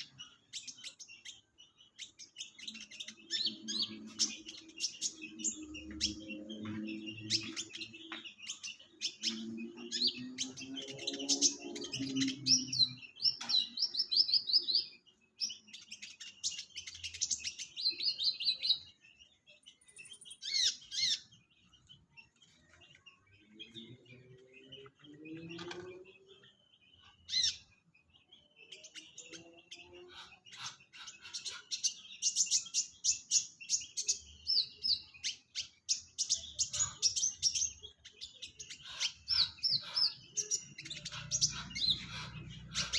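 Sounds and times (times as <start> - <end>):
small bird singing: 0.0 - 42.9.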